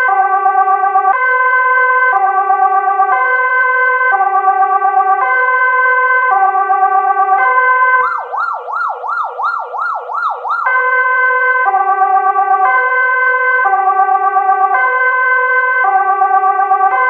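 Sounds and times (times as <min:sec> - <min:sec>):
electronic siren yelp: 0:00.0 - 0:17.0
two-tone hi-lo siren: 0:00.0 - 0:17.0.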